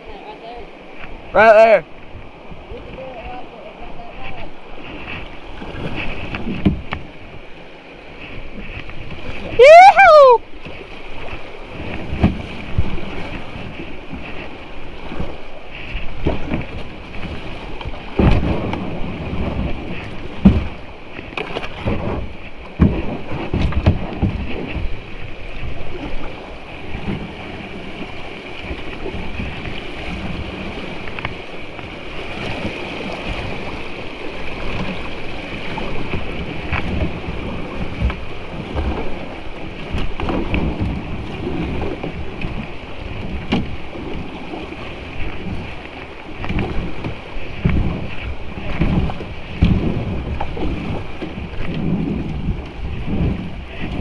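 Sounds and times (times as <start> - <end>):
rushing water: 0.0 - 54.0
wind buffeting microphone: 0.7 - 54.0
kayak knocks and splashes: 4.2 - 54.0.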